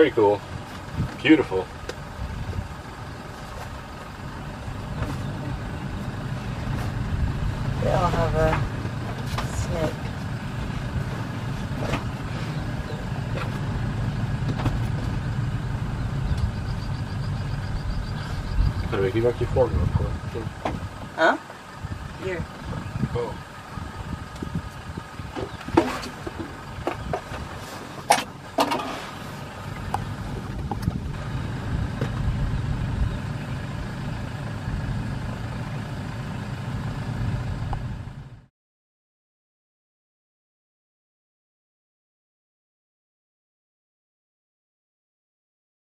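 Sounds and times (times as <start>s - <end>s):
vehicle engine idling: 0.0s - 38.5s.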